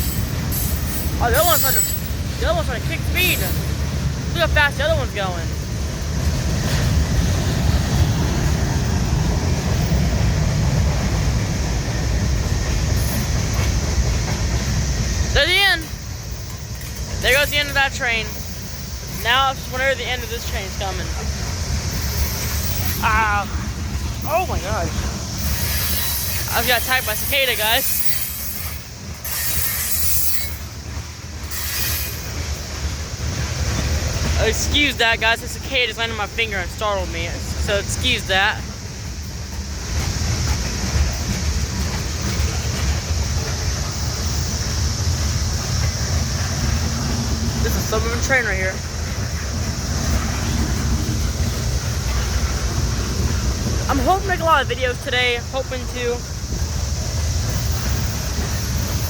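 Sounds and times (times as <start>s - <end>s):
freight train cars rolling: 0.0s - 59.0s
wheel hiss: 0.0s - 59.0s.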